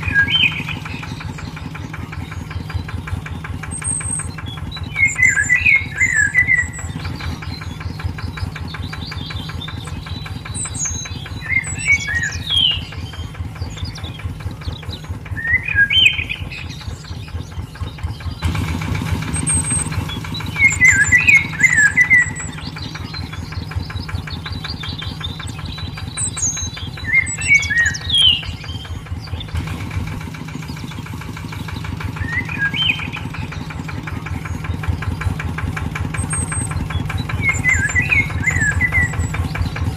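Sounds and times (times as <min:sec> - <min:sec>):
birds chirping: 0:00.0 - 0:39.9
small tractor engine putting: 0:00.0 - 0:39.9.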